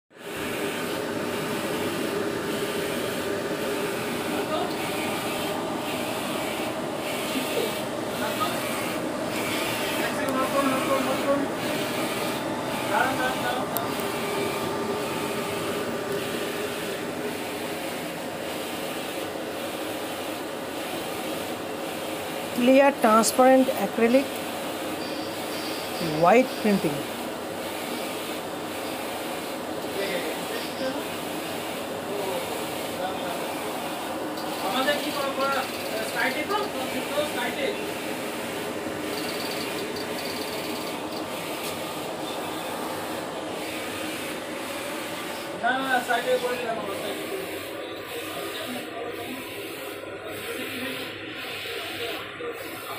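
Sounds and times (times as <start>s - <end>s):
printer mechanical hum: 0.1s - 52.9s.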